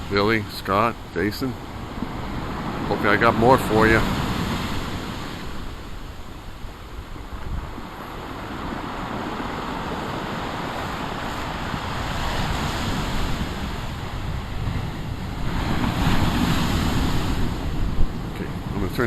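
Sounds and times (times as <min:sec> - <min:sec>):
waves breaking on shore: 0:00.0 - 0:19.0
wind rumbling on microphone: 0:00.0 - 0:19.0.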